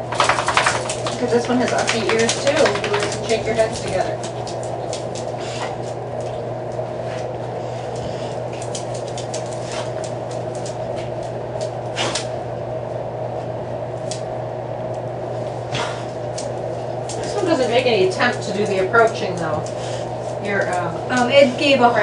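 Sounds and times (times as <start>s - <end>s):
ventilation hum: 0.0s - 22.0s.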